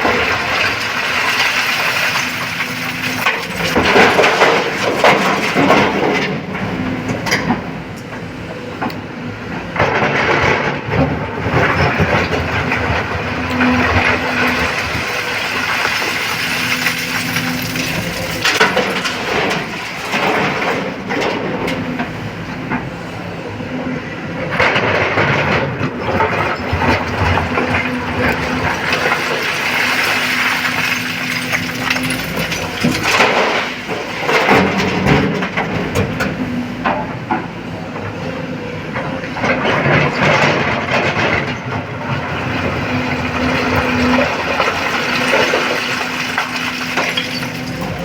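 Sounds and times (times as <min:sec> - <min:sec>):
rock and bucket clatter: 0:00.0 - 0:06.5, 0:09.9 - 0:21.6, 0:24.6 - 0:36.3, 0:39.4 - 0:48.0
excavator diesel engine under load: 0:00.0 - 0:48.0.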